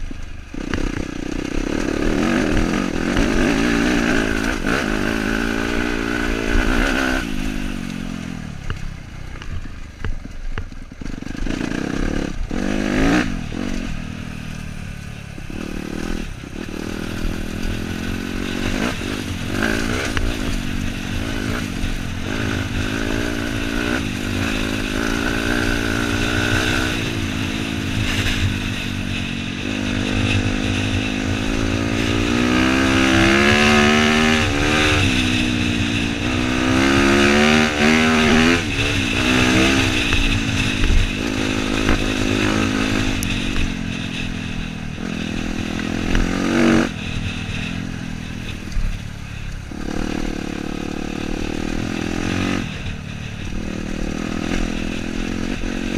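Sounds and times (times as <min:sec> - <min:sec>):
dirt bike engine running: 0:00.0 - 0:55.9.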